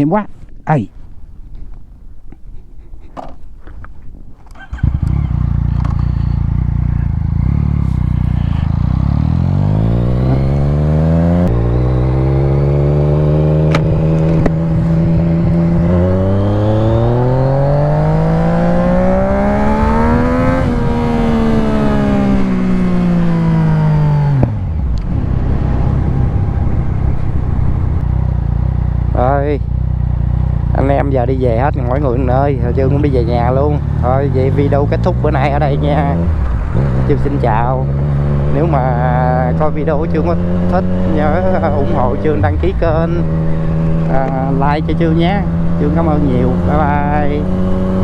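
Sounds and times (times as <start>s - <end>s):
motorcycle engine accelerating: 4.4s - 48.0s.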